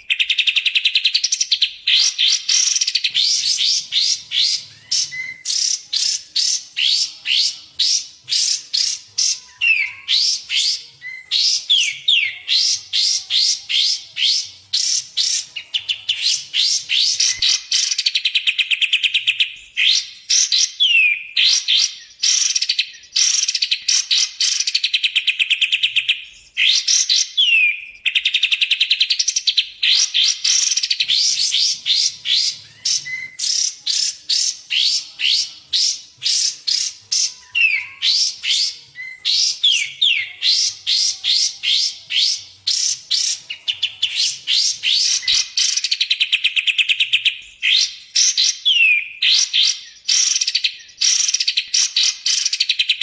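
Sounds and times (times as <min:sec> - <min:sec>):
songbird chirping and trilling: 0:00.0 - 0:53.0.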